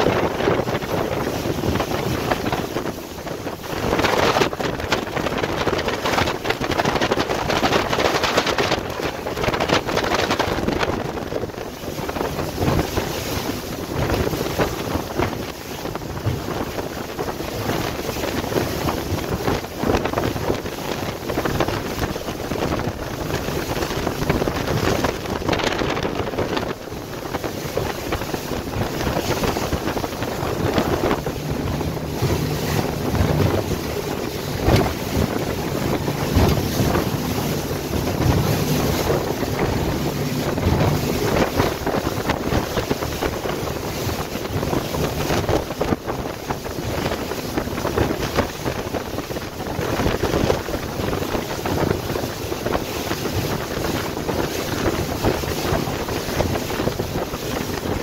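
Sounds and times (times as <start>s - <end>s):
outboard motors droning: 0.0s - 58.0s
water washing along hull: 0.0s - 58.0s
wind buffeting microphone: 0.0s - 58.0s.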